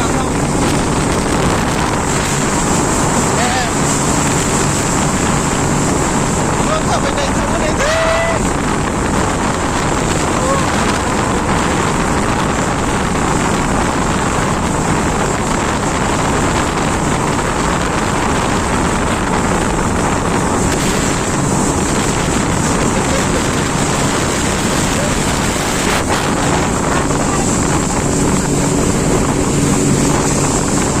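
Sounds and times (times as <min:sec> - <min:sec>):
jet ski engine running: 0:00.0 - 0:31.0
wind on microphone: 0:00.0 - 0:31.0.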